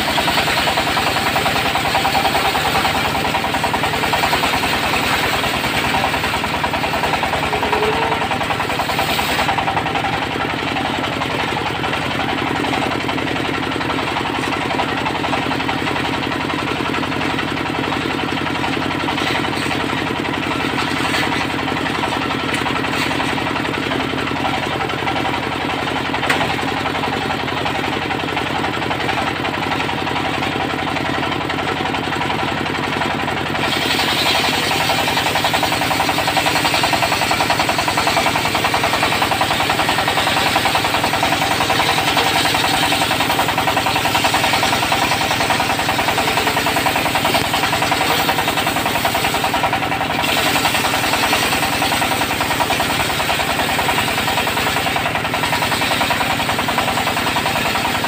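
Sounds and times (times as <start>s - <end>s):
circular saw cutting log: 0.0s - 58.0s
diesel engine clattering: 0.0s - 58.0s
free-spinning saw blade: 0.0s - 58.0s.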